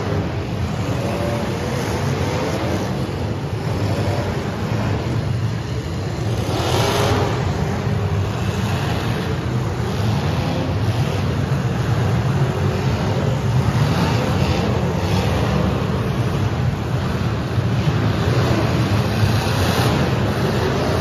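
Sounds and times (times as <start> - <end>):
car engines running and revving: 0.0 - 21.0.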